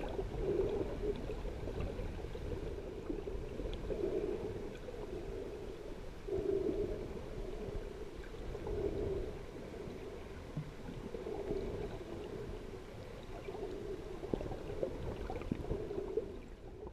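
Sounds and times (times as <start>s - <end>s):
faint ticks: 0.0s - 16.9s
muffled underwater rushing: 0.0s - 16.9s.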